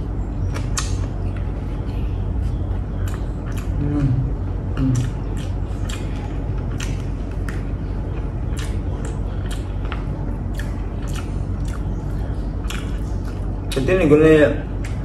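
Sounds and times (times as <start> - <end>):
steady low hum: 0.0 - 15.0
chewing and lip-smacking: 0.3 - 13.9, 14.8 - 15.0.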